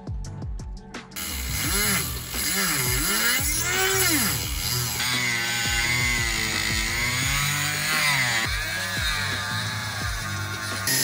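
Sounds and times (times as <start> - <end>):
background music: 0.0 - 11.0
rotary tool grinding metal: 1.2 - 11.0.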